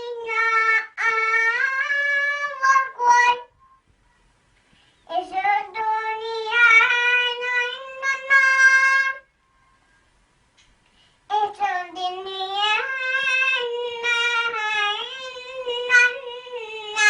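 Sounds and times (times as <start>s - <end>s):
child chanting melodically: 0.0s - 3.8s, 5.0s - 9.4s, 11.3s - 17.0s.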